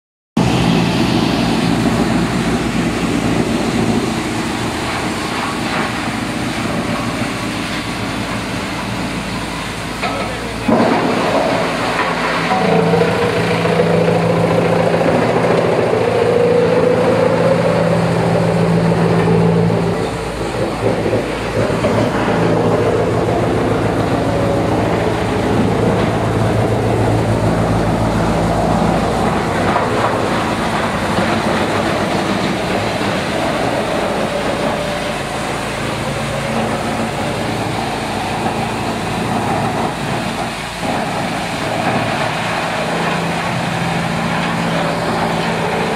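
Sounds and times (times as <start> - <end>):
wood chipper crunching logs: 0.4 - 45.9
wood chipper motor hum: 0.4 - 45.9.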